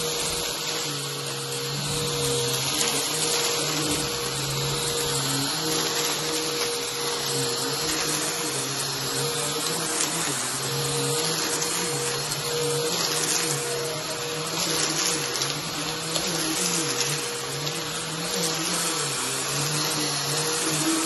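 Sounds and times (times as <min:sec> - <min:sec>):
vacuum cleaner running on rugs: 0:00.0 - 0:21.0.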